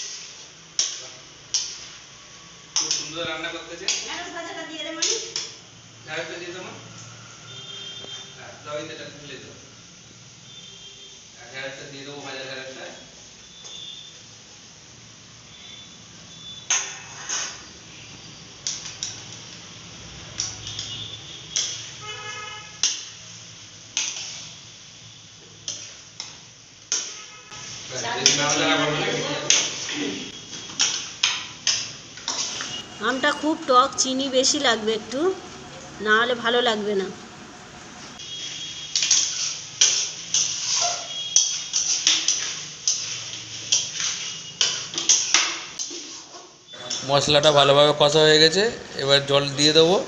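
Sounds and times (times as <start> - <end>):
curry frying: 0.0 - 4.4, 9.6 - 50.0.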